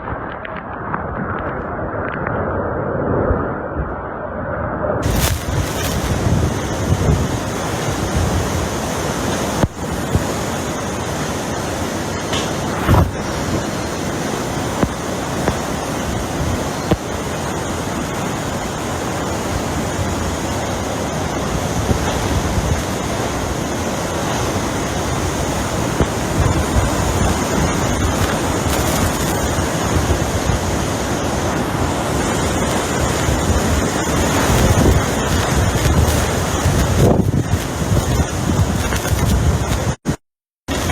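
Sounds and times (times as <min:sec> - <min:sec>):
strong wind rushing: 0:00.0 - 0:40.1
wind buffeting microphone: 0:05.0 - 0:40.0.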